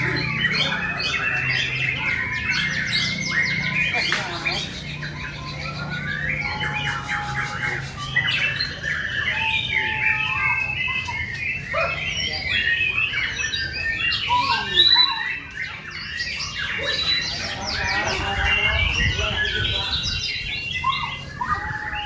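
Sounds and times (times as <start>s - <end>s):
chorus of birds singing: 0.0s - 22.0s.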